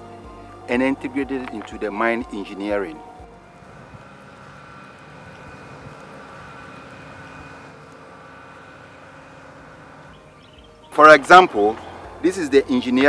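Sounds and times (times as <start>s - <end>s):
high whining tones: 0.0s - 13.0s
machine hum: 0.0s - 13.0s.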